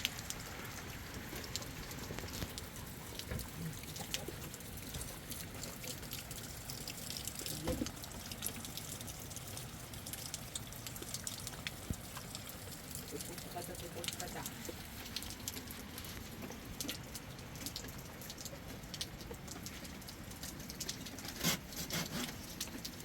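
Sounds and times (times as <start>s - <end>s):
rain falling: 0.0s - 23.0s
water dripping: 0.0s - 23.0s.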